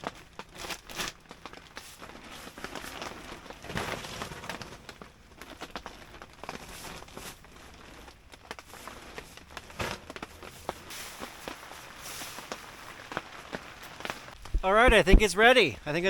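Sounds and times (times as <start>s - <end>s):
plastic tarp rustling and crinkling: 0.0s - 16.0s.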